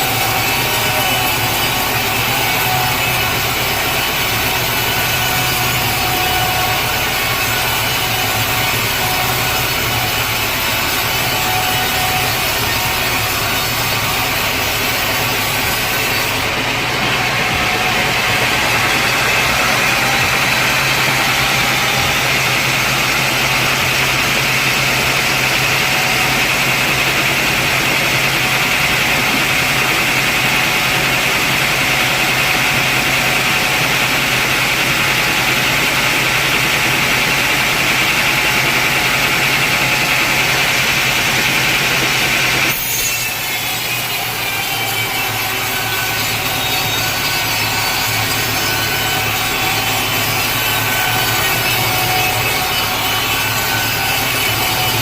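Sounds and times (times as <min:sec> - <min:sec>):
machine motor hum: 0:00.0 - 0:55.0
saw cutting through log: 0:00.0 - 0:55.0.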